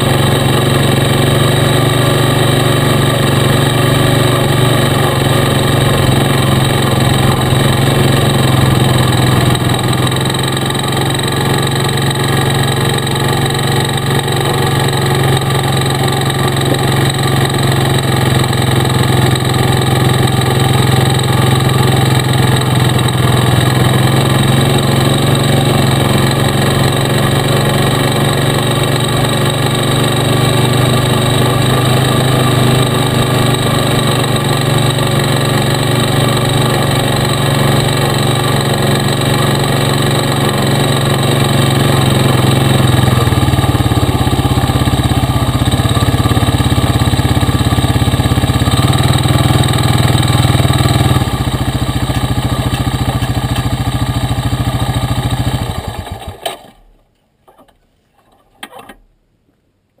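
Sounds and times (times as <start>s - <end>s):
atv engine running: 0.0s - 56.5s.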